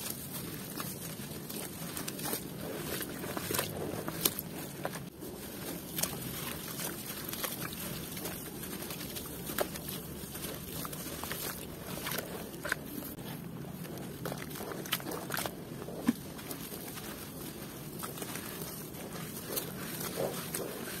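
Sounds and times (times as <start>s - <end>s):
hands squelching wet mud: 0.0s - 21.0s.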